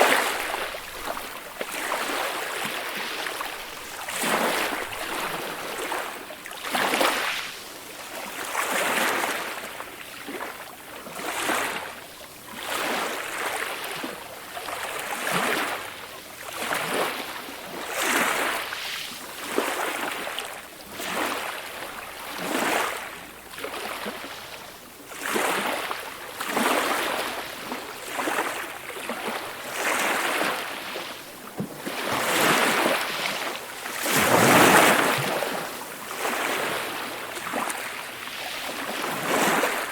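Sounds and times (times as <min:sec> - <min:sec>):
small waves washing onto shore: 0:00.0 - 0:39.9.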